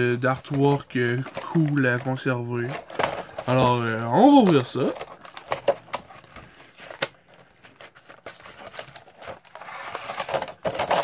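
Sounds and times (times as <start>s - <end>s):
plastic packaging crackling: 0.0s - 11.0s
plastic rustling crinkle: 0.0s - 11.0s.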